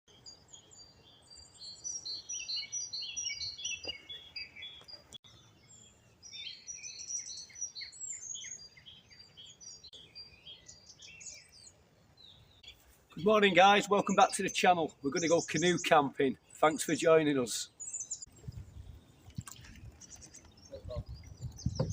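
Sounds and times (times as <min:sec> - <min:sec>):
faint outdoor background noise: 0:00.1 - 0:21.9
songbirds chirping: 0:00.1 - 0:21.9.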